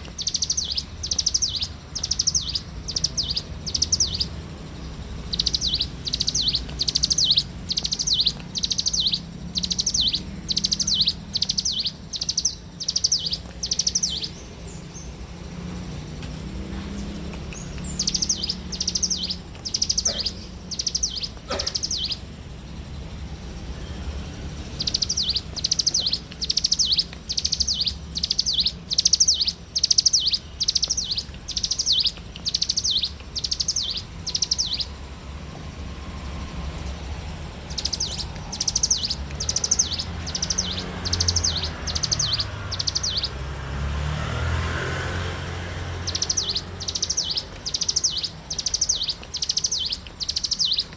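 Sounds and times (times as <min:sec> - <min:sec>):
steady low rumble: 0:00.0 - 0:43.6
bird singing high trills: 0:00.0 - 0:50.9.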